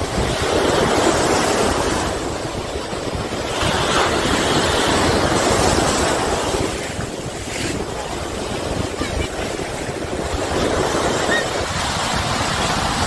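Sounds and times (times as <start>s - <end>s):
sea surf washing onto beach: 0.0s - 13.0s
wind buffeting microphone: 0.0s - 13.0s.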